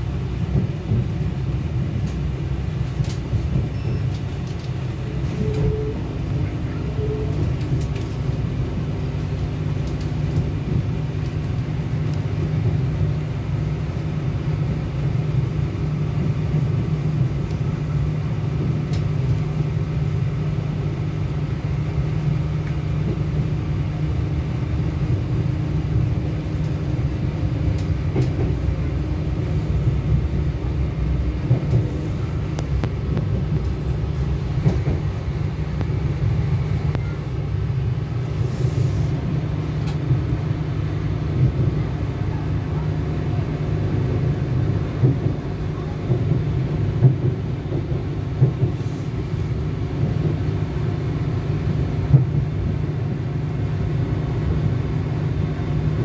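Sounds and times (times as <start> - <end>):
train diesel engine rumble: 0.0 - 56.0.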